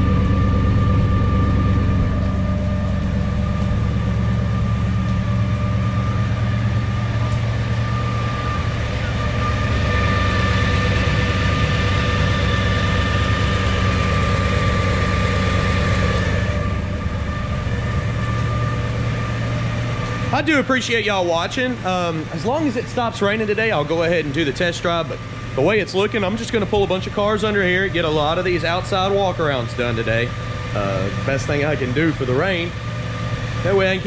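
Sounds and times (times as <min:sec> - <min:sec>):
car engine idling: 0:00.0 - 0:34.0
thin steady whine: 0:00.0 - 0:34.0.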